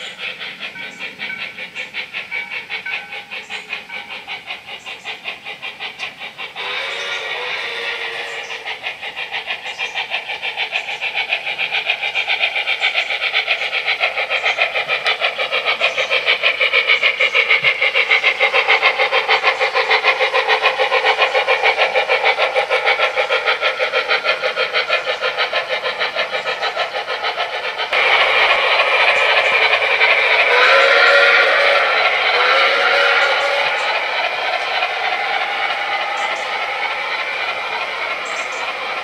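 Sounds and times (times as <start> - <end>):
simulated steam locomotive chuffing: 0.0 - 39.0.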